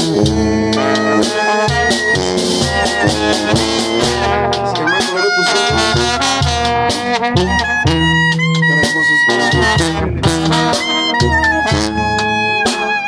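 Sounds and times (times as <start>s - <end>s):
sousaphone bass line: 0.0s - 13.0s
trumpets and brass: 0.0s - 13.0s.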